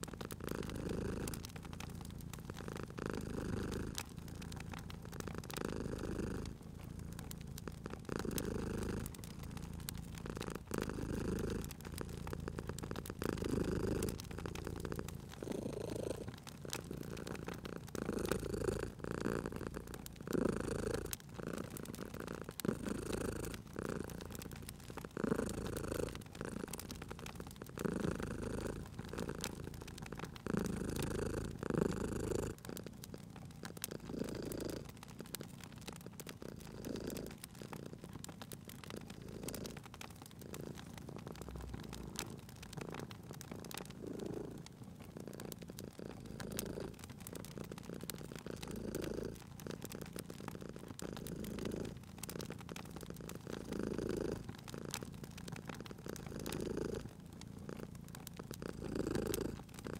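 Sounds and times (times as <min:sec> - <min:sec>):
cat purring: 0:00.0 - 0:59.9
wood fire crackling: 0:00.0 - 0:59.9.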